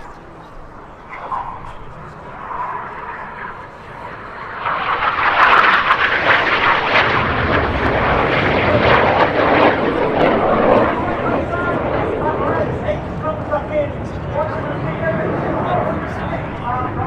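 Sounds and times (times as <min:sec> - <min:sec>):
jet roar flying by: 0:00.0 - 0:17.0.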